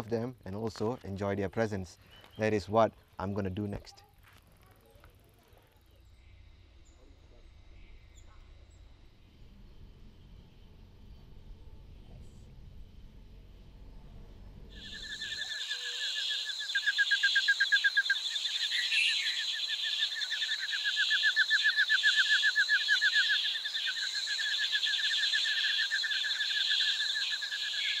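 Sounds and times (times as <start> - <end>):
chorus of pulsing animal chirps: 5.2 - 28.0.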